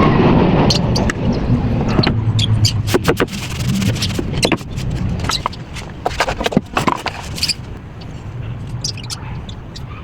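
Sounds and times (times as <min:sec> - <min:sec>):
sharp clicks and scraping: 0:00.9 - 0:09.2.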